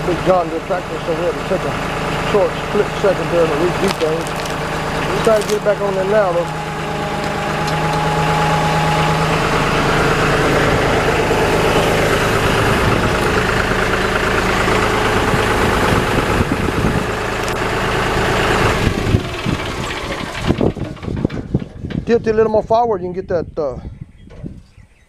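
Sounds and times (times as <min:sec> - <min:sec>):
tractor engine running: 0:00.0 - 0:23.2.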